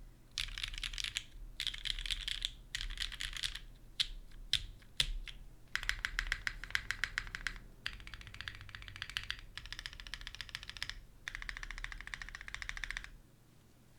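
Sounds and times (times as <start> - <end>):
mechanical keyboard rapid clicking: 0.4 - 13.2.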